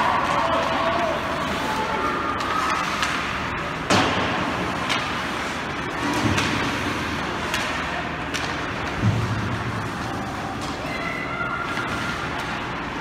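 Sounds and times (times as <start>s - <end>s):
crowd and rink hubbub: 0.0s - 13.0s
sharp cracks of sticks and puck: 0.2s - 13.0s.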